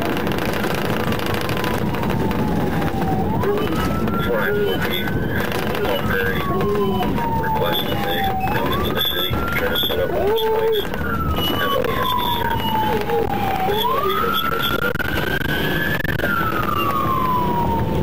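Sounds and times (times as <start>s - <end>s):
police siren wailing: 0.0s - 18.0s
road and engine noise: 0.0s - 18.0s.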